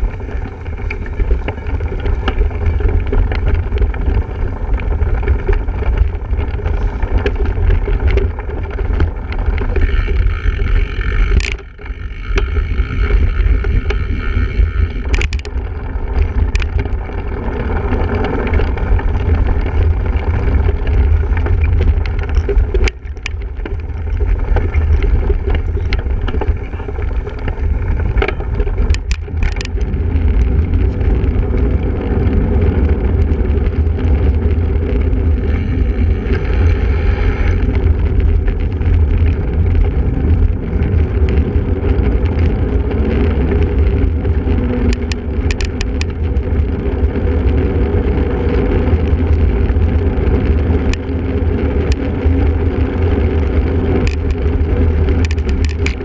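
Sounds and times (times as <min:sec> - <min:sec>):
bike knocks and rattles: 0:00.0 - 0:56.0
wind rumbling on microphone: 0:00.0 - 0:56.0.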